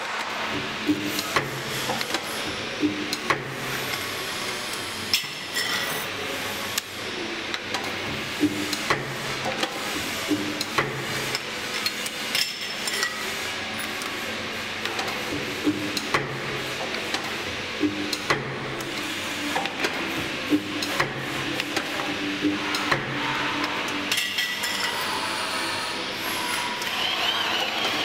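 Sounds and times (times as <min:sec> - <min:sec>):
spot welder clacking with hum: 0:00.0 - 0:28.0.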